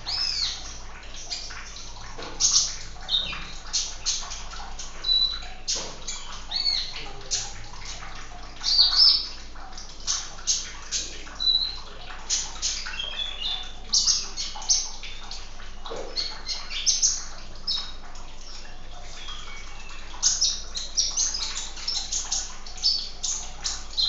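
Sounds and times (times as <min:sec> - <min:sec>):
running water rushing: 0:00.0 - 0:24.0
songbirds chirping and twittering: 0:00.0 - 0:24.0.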